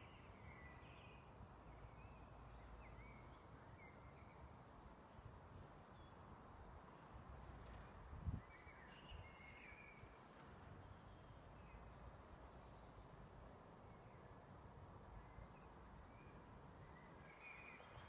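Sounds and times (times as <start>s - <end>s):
faint birdsong: 0.0s - 18.0s.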